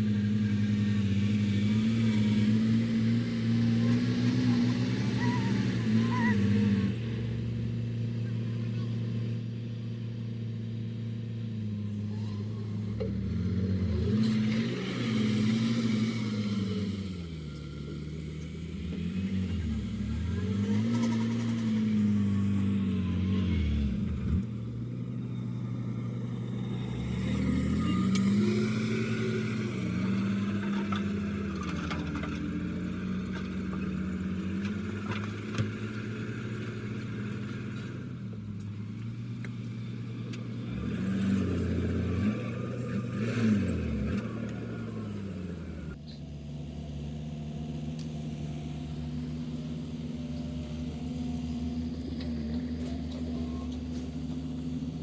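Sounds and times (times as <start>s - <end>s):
heavy diesel engine revving: 0.0s - 55.0s.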